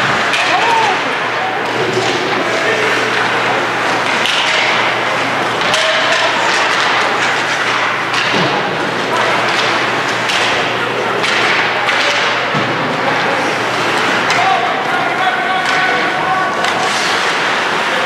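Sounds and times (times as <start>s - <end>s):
crowd noise: 0.0s - 18.0s
hockey sticks and puck knocks: 0.0s - 18.0s
skating: 0.0s - 18.0s.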